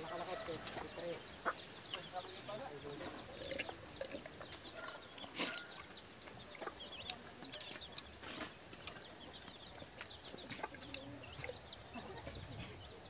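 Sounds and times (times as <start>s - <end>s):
chickens: 0.0s - 13.0s
small birds chirping: 0.0s - 13.0s
steady high-pitched hiss: 0.0s - 13.0s.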